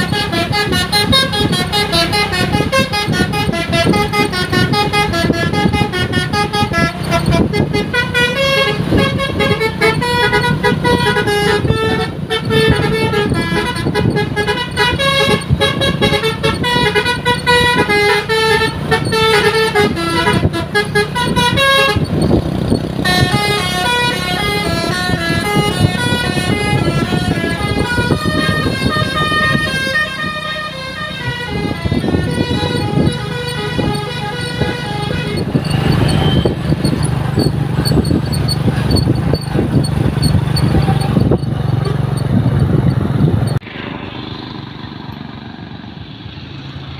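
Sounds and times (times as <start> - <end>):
bus air horn playing a tune: 0.0 - 42.2
bus engine running: 0.0 - 46.9.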